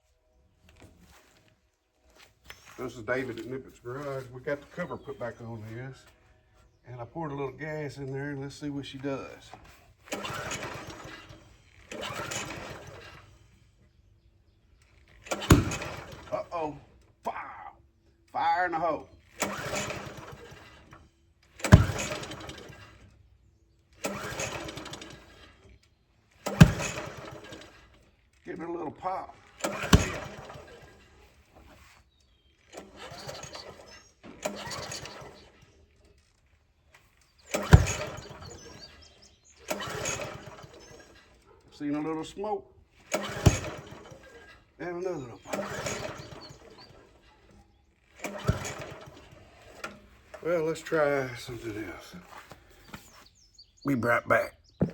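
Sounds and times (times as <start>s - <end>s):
pull starter cranking small engine: 2.1s - 53.8s.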